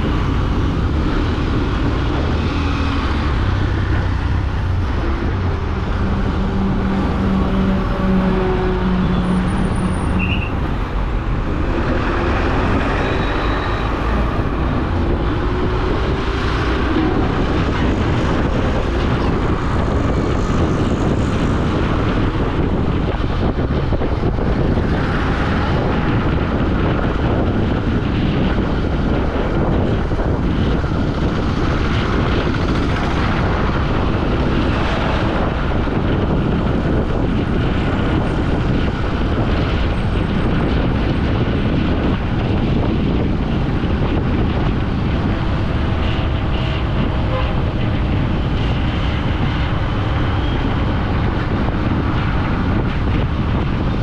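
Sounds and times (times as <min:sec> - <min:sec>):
motorcycle engine drone: 0:00.0 - 0:54.0
wind on microphone: 0:00.0 - 0:54.0.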